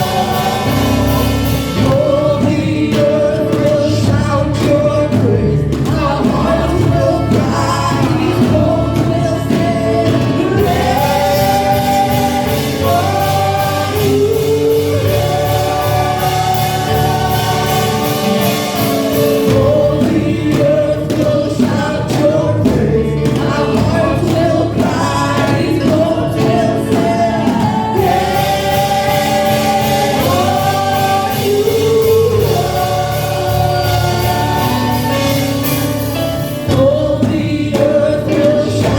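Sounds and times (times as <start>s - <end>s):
choir singing gospel: 0.0s - 38.9s
instrumental accompaniment with beat: 0.0s - 38.9s.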